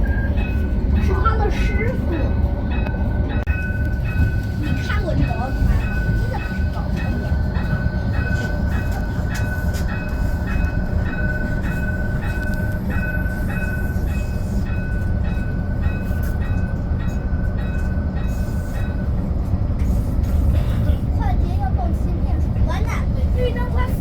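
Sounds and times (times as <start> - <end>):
tram rumble: 0.0 - 24.0.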